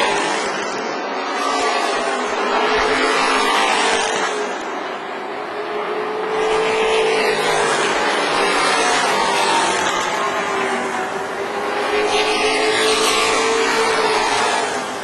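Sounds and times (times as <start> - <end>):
racing truck engines droning: 0.0 - 15.0.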